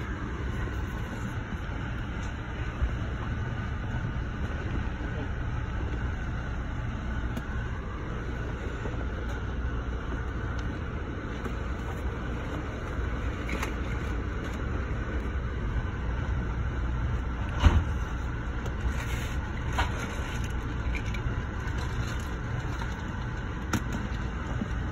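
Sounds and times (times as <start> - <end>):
train car rumbling on rails: 0.0 - 24.9.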